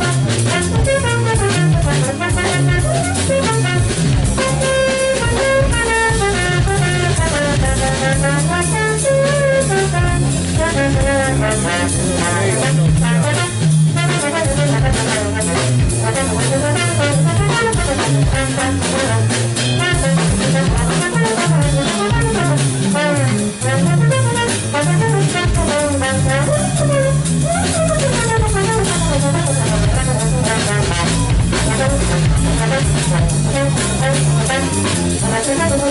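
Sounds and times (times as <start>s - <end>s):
drum kit with cymbals: 0.0s - 35.9s
low bass line: 0.0s - 35.9s
trombone melody: 0.0s - 35.9s.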